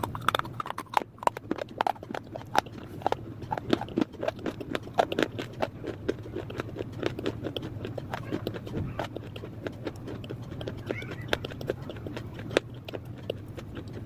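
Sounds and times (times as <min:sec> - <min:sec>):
dry clay crunching when chewed: 0:00.0 - 0:14.0.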